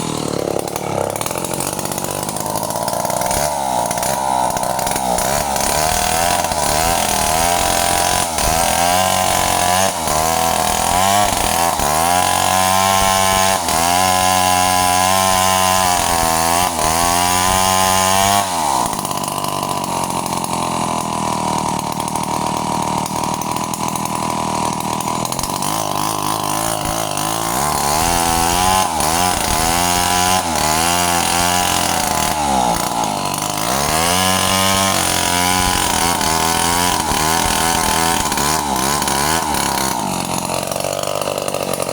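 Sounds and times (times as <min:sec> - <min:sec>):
chainsaw running at high revs: 0:00.0 - 0:41.9.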